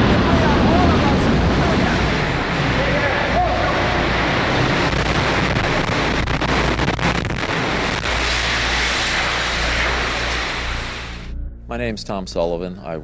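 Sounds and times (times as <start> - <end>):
rushing noise on microphone: 0.0 - 11.3.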